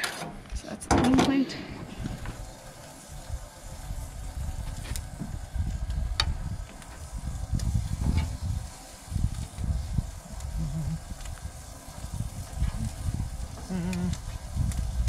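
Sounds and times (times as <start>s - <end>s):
low uneven rumble: 1.4s - 15.0s
chicken sizzling on grill: 1.7s - 15.0s.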